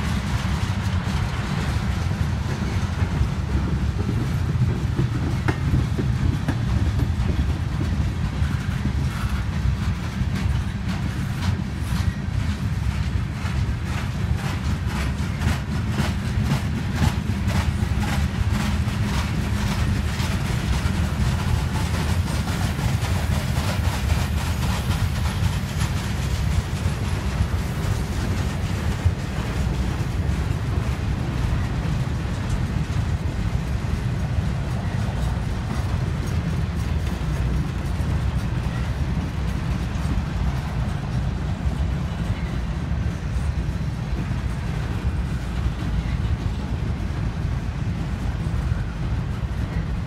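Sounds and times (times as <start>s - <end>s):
train rumbling past: 0.0s - 50.0s
wheels clicking on rails: 0.0s - 50.0s.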